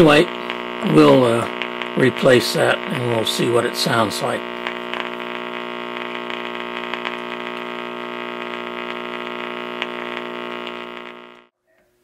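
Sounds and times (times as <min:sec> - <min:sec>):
radio speaker hum: 0:00.0 - 0:11.5
faint crackles: 0:00.0 - 0:11.9.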